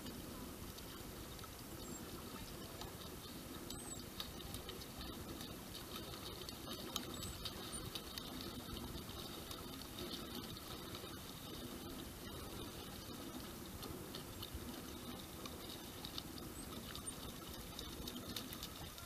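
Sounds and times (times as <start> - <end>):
small drips: 0.0 - 19.0
water lapping against hull: 0.0 - 19.0.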